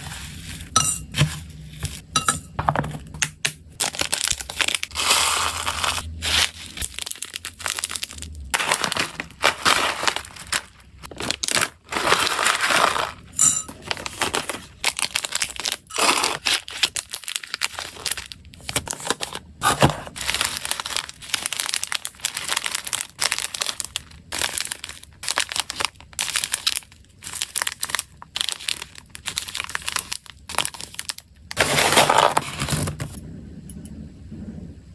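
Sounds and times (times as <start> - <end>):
plastic crinkling: 3.6 - 33.2.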